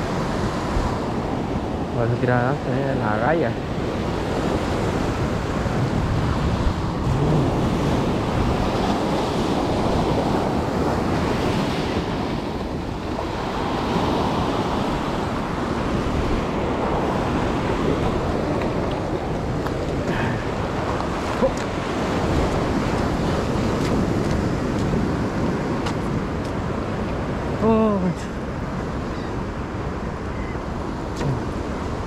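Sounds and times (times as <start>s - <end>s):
surf breaking on rocky shore: 0.0s - 28.2s
wind buffeting microphone: 0.0s - 32.0s.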